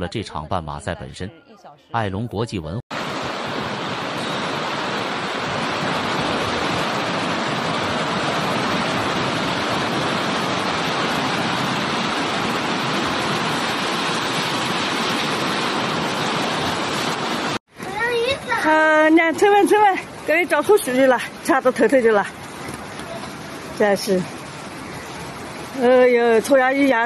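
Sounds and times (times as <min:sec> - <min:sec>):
floodwater rushing: 0:02.9 - 0:27.0.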